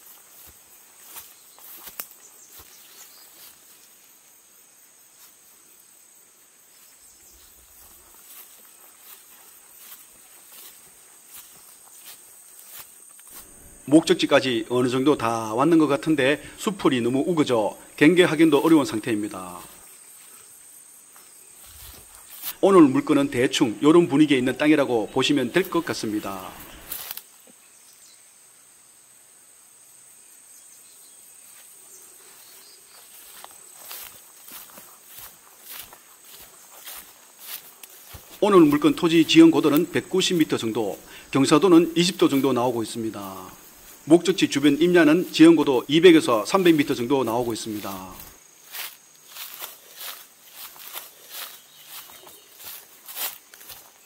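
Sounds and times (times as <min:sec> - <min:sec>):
footsteps rustling grass and leaves: 0:00.0 - 0:27.5, 0:31.0 - 0:54.0
insects chorus: 0:00.0 - 0:54.0.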